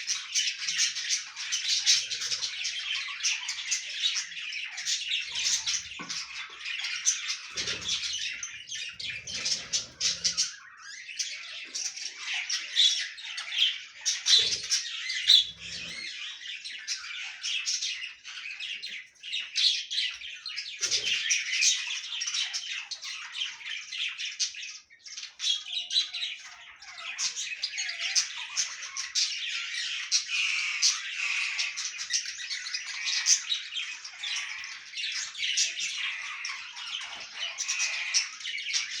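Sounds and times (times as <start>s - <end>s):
budgerigars chattering: 0.0s - 39.0s.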